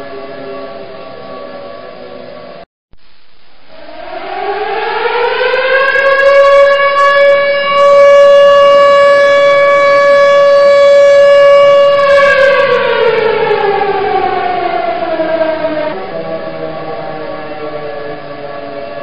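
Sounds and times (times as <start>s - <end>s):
siren winding up and down: 3.7s - 19.0s.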